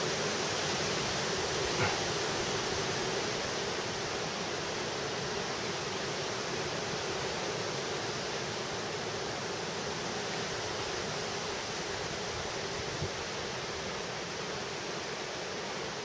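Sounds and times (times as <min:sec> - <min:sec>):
wind rushing through trees: 0:00.0 - 0:16.0.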